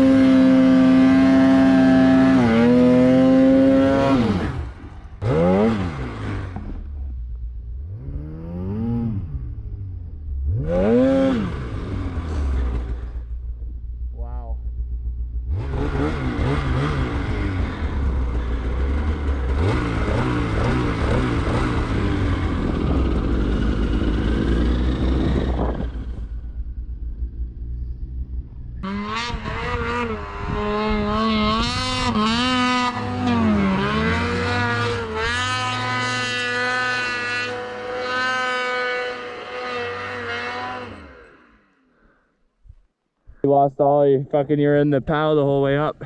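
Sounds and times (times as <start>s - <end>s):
snowmobile engine revving: 0.0s - 14.7s, 15.3s - 42.2s.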